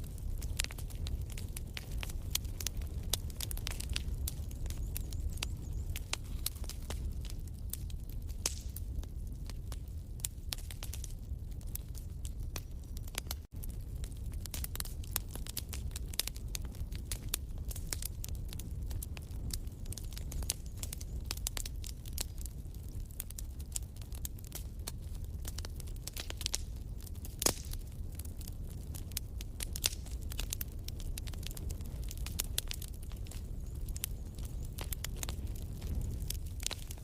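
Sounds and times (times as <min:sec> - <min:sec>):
low rumble of flames: 0:00.0 - 0:37.0
wood fire crackling: 0:00.0 - 0:37.0.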